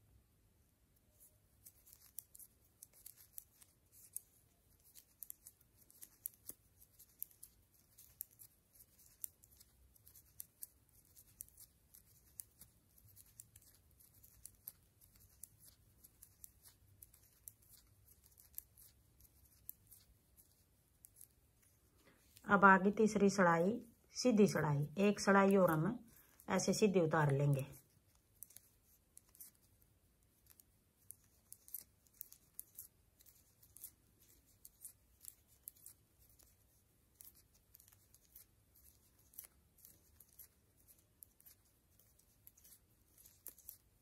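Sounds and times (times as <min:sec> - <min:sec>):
metal knitting needles clicking: 0:01.6 - 0:22.4, 0:26.6 - 0:43.9.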